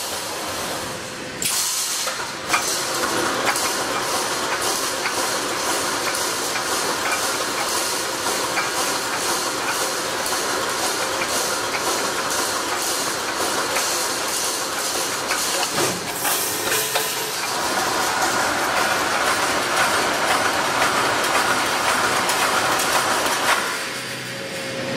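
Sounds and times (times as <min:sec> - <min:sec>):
welding machine hissing and clacking: 0:00.0 - 0:24.9.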